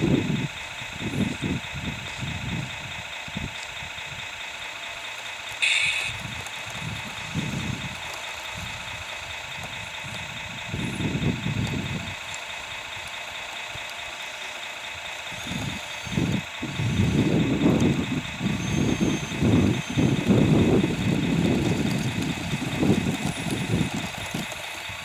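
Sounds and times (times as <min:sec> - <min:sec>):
toy loader motor whining and rumbling: 0:00.0 - 0:25.0.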